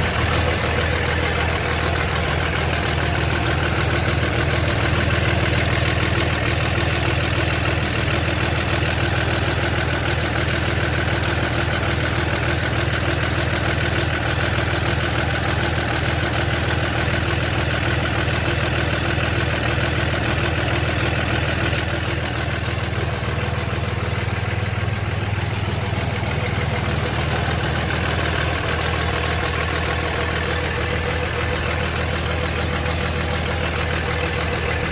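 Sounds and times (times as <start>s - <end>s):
diesel engine rough idling: 0.0s - 34.9s.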